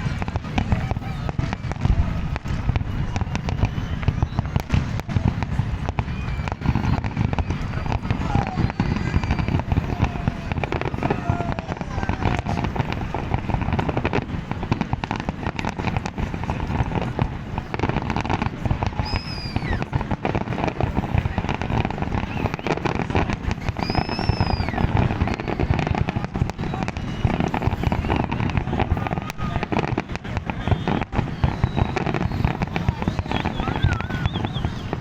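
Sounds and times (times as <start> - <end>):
firework whistle: 0.0 - 35.0
fireworks bangs and crackling: 0.0 - 35.0.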